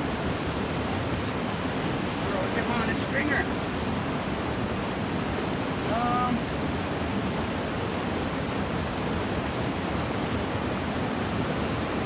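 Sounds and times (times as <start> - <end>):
water flowing: 0.0 - 12.0.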